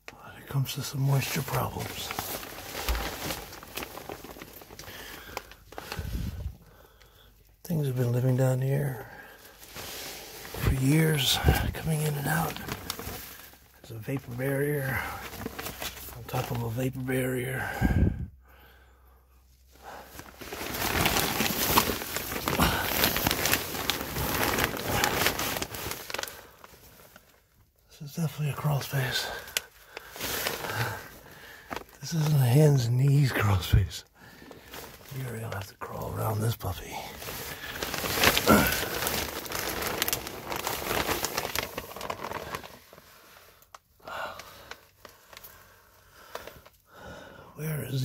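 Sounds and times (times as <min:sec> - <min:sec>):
plastic sheeting crinkling: 0:00.1 - 0:18.1, 0:19.6 - 0:47.0.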